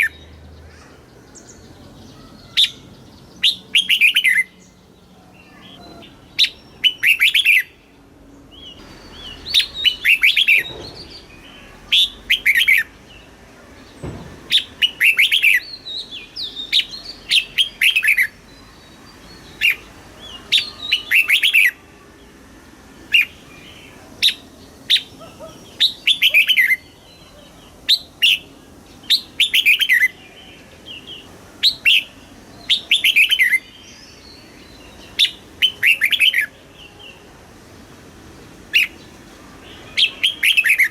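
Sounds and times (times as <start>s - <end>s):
bulbul singing: 0.0s - 21.8s, 23.1s - 37.3s, 38.7s - 40.9s.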